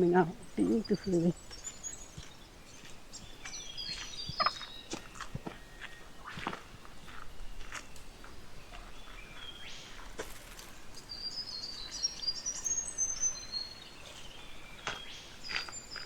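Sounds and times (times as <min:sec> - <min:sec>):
rustling in undergrowth: 0:00.0 - 0:16.0.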